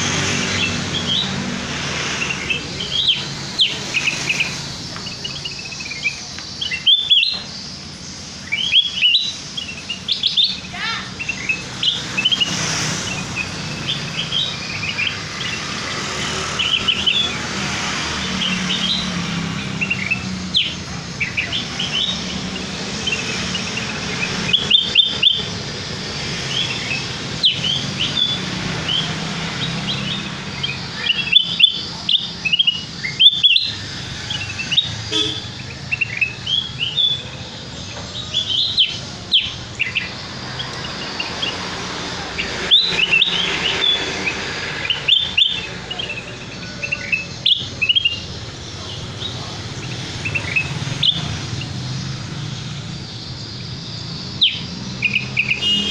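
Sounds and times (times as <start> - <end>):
bird chirping: 0.0 - 55.9.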